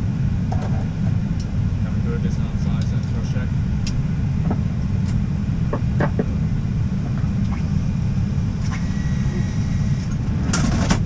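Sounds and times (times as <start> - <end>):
aircraft engine and airflow rumble: 0.0 - 11.0.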